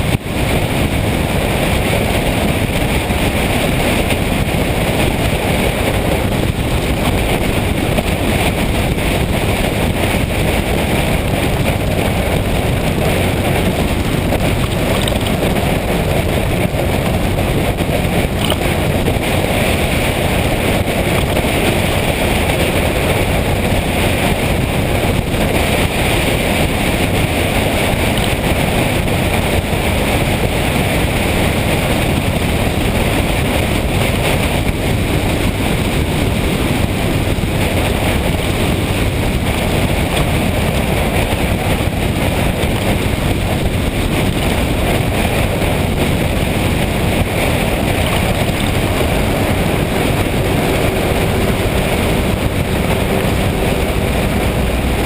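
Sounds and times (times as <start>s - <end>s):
motorcycle engine hum: 0.0s - 55.0s
wind rush over microphone: 0.0s - 55.0s.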